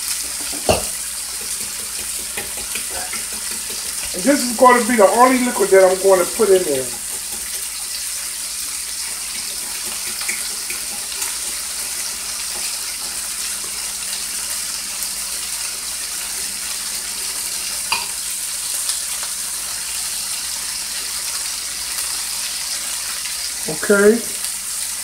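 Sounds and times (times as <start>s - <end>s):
meat and vegetables sizzling: 0.0s - 25.0s.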